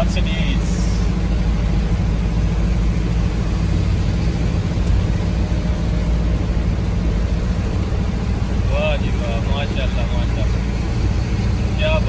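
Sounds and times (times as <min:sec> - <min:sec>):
engine and road drone: 0:00.0 - 0:12.0.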